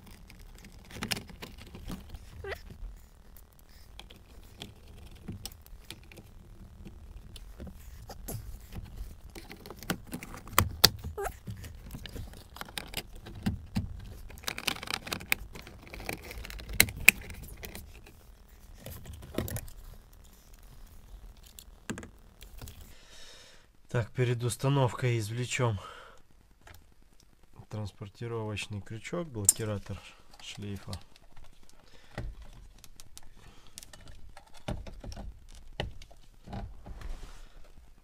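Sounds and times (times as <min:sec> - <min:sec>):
plastic parts clicking and rattling: 0:00.0 - 0:22.9, 0:29.4 - 0:37.0.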